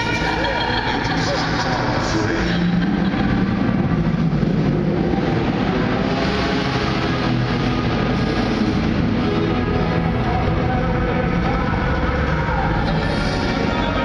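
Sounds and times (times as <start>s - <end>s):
car engine running: 0.0s - 14.0s
music playing in a hall: 0.0s - 14.0s.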